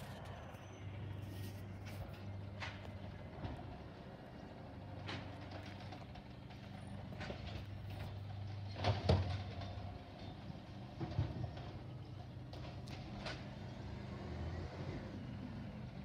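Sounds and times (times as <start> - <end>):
distant diesel engine running: 0.0 - 16.0.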